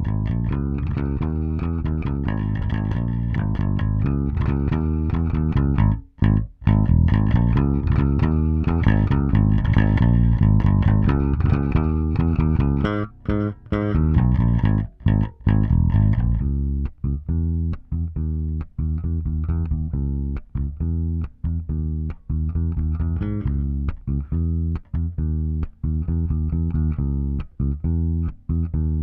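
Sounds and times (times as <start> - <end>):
electric bass guitar plucking: 0.0 - 29.0.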